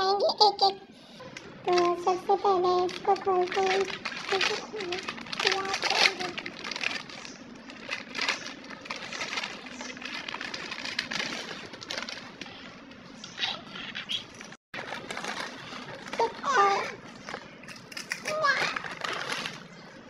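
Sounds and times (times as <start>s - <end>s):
foil packet crinkling: 1.7s - 12.9s, 14.8s - 19.8s.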